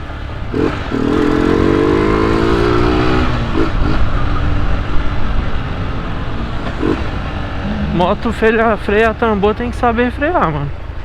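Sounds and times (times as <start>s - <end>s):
motorcycle engine running: 0.0s - 11.0s
wind noise: 0.3s - 9.7s.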